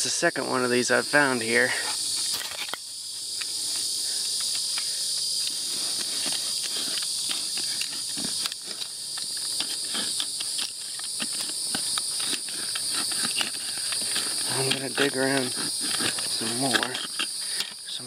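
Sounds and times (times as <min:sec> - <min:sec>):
high-pitched insect chorus: 0:00.0 - 0:18.0
light clicks and scrapes: 0:03.4 - 0:18.0.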